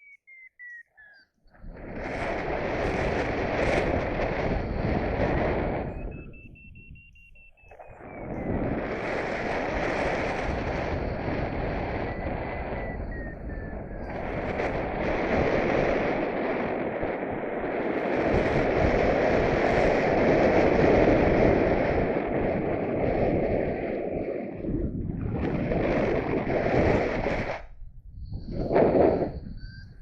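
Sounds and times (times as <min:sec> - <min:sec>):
wind rushing over microphone: 0:01.5 - 0:30.0.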